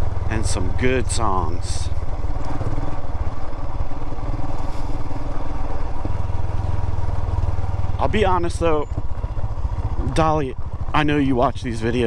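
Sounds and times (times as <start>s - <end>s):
single-cylinder engine thumping: 0.0s - 11.2s
wind and road noise: 0.0s - 12.0s.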